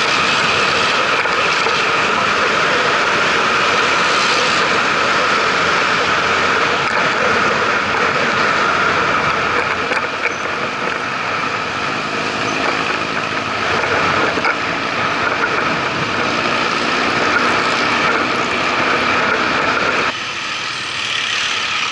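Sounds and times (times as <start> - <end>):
vehicle engines running nearby: 0.0 - 21.9
wind and road rush: 0.0 - 21.9.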